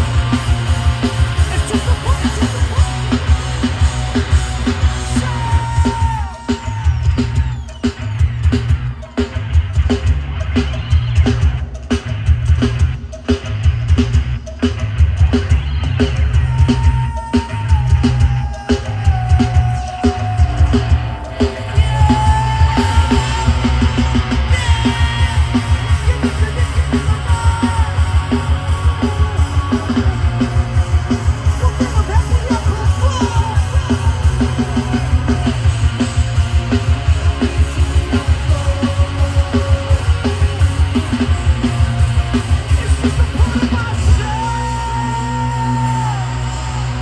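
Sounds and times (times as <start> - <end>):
yelled vocals: 0.0 - 11.6, 15.4 - 47.0
distorted guitar: 0.0 - 47.0
fast drum beat: 0.0 - 47.0
heavy bass: 0.0 - 47.0.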